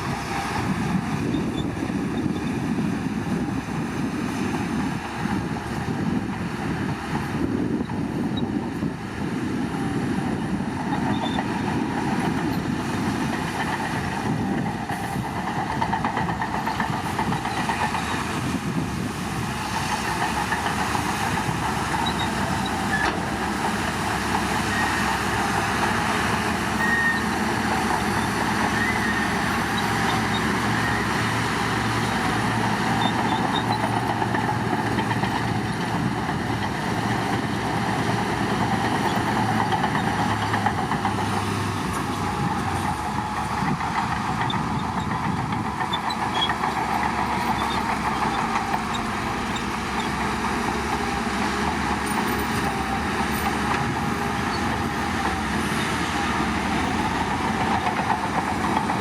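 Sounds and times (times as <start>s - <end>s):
bulldozer diesel engine clattering: 0.0s - 59.0s.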